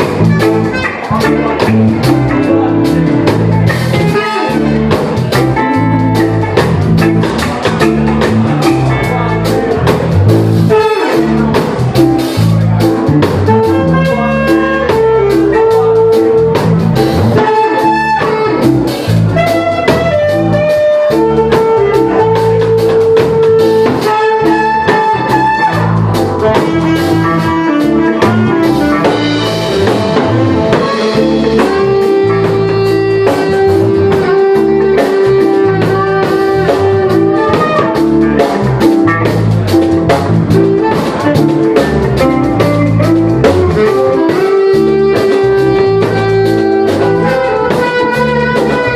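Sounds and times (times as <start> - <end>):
jazz fusion band playing live: 0.0 - 48.9.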